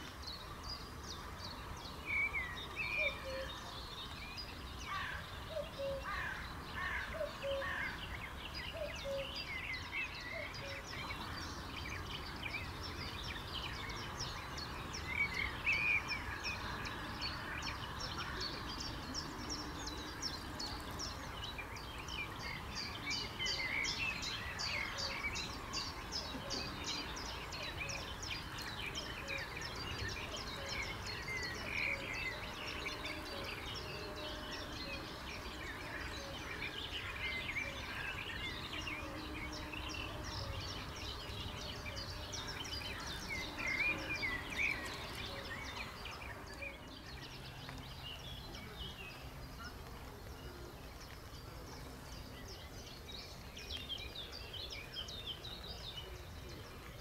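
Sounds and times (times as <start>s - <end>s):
birds singing: 0.0s - 57.0s.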